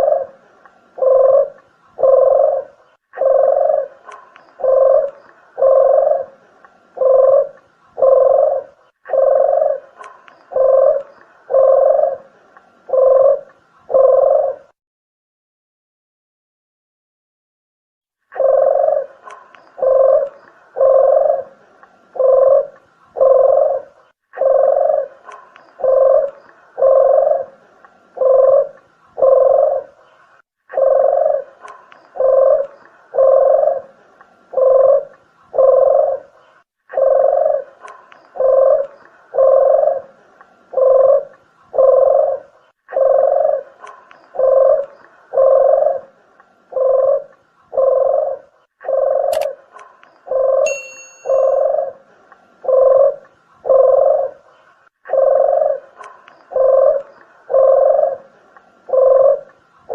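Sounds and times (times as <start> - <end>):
dove cooing: 0.0 - 14.8, 18.3 - 59.9.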